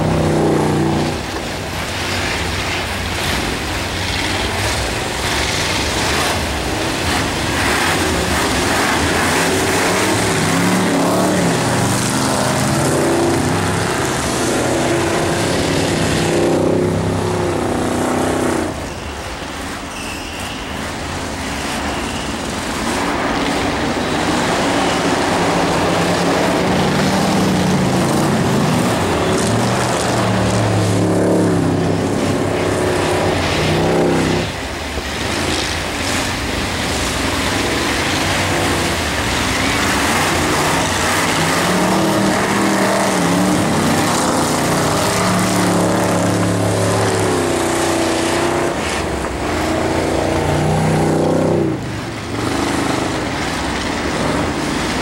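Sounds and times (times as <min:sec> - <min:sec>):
racing car engines revving hard: 0:00.0 - 0:18.9, 0:21.3 - 0:55.0.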